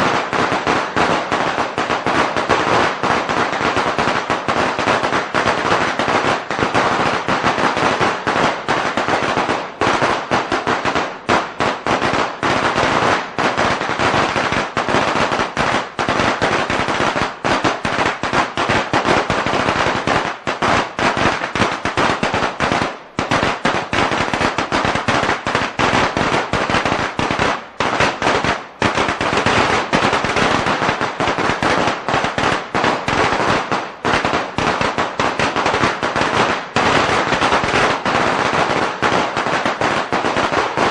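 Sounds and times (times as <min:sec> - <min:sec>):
firecrackers crackling: 0:00.0 - 0:40.9.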